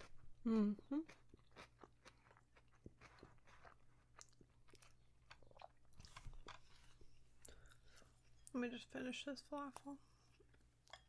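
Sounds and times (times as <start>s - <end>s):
person chewing food: 0.0s - 8.5s, 10.0s - 11.0s.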